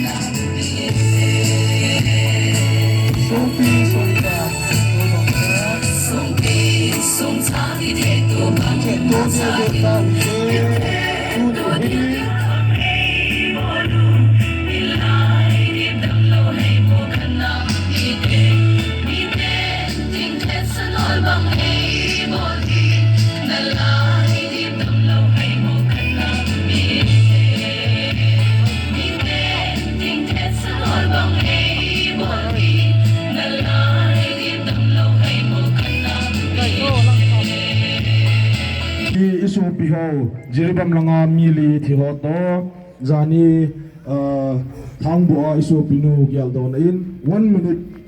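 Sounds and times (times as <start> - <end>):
choir-like group singing: 0.0 - 39.0
pulsing bass beat: 0.0 - 39.1.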